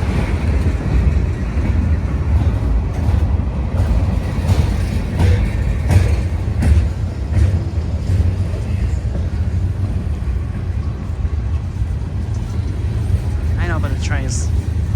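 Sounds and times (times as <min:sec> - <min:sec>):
freight train rumbling: 0:00.0 - 0:14.9
wheels clacking over rail joints: 0:00.0 - 0:14.9.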